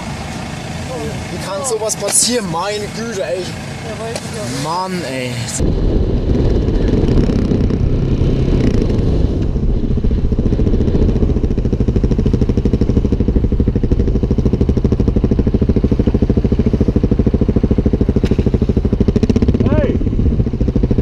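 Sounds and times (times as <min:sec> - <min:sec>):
motorcycle engine idling: 0:00.0 - 0:08.2, 0:08.8 - 0:21.0.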